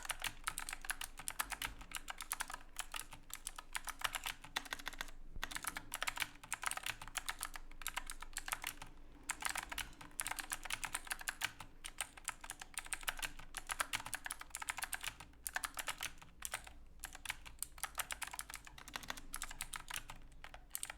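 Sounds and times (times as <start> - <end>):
mechanical keyboard typing: 0.0 - 20.9.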